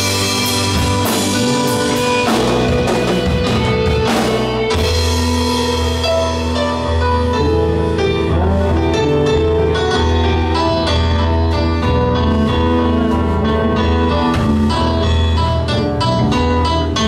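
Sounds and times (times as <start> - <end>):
drum kit: 0.0 - 17.0
electric bass: 0.0 - 17.0
electric guitar: 0.0 - 17.0
keyboard: 0.0 - 17.0.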